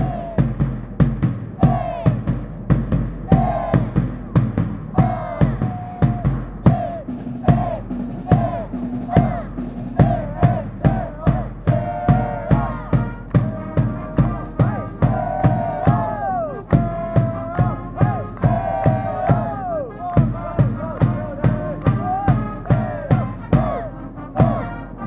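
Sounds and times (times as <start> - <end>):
bass drum beat: 0.0 - 25.0
brass band phrases: 0.0 - 25.0.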